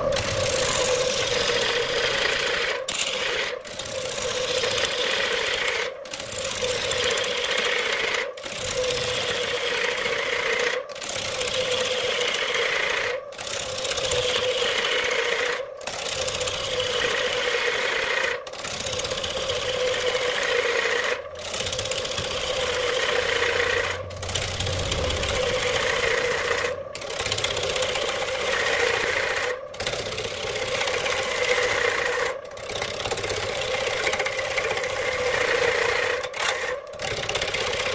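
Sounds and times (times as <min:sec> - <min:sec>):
lathe motor hum: 0:00.0 - 0:37.9.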